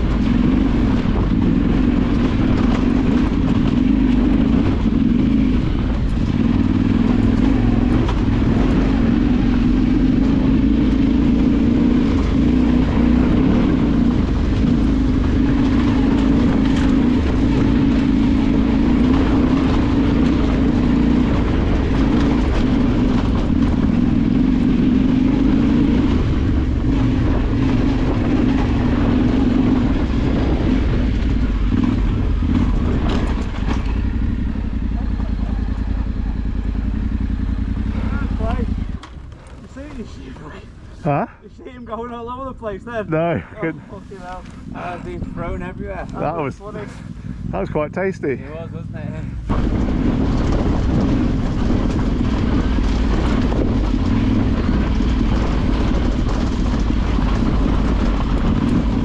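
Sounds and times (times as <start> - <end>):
vehicle engine running under load: 0.0 - 59.0.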